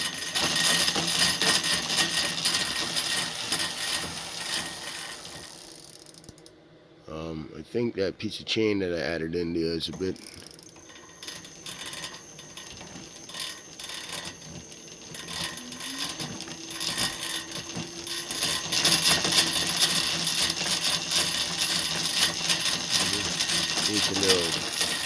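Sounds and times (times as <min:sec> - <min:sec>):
bike chain clicking and rattling: 0:00.0 - 0:06.5, 0:09.9 - 0:25.0.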